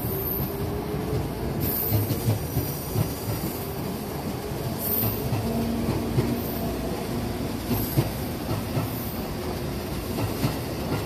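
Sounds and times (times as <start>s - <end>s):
train wheels rumbling and clacking: 0.0s - 11.0s.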